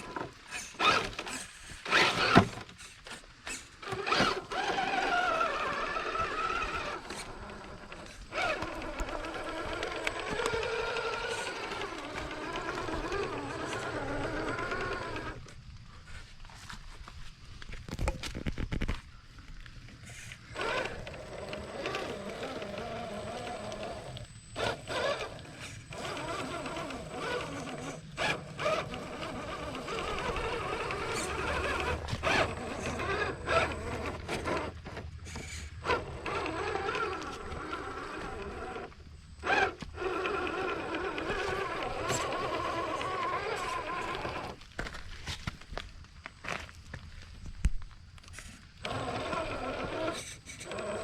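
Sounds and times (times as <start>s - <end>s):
toy car motor whining: 0.0s - 15.6s, 20.0s - 45.5s, 48.2s - 51.0s.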